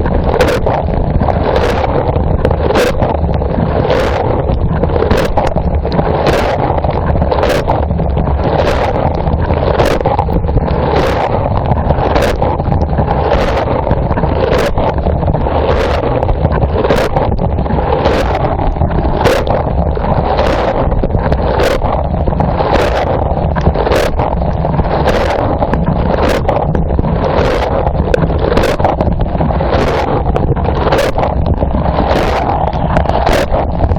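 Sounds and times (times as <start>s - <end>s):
low pump hum: 0.0s - 33.9s
water rushing and spraying: 0.0s - 33.9s.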